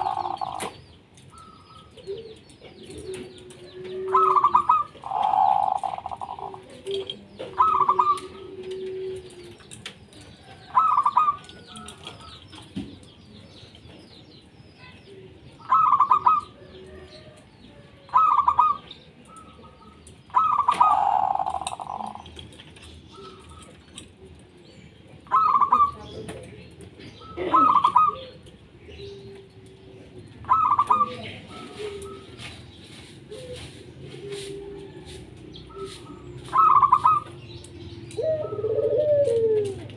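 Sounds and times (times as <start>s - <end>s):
dove rippling cooing: 0.0s - 12.5s, 15.6s - 22.5s, 23.1s - 39.9s
small birds chirping: 0.0s - 39.9s.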